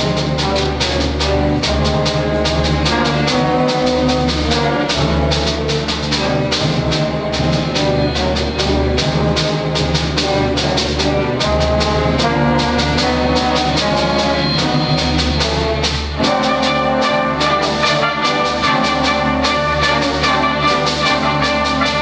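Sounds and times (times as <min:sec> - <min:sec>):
orchestra playing: 0:00.0 - 0:22.0
percussion strikes: 0:00.0 - 0:22.0.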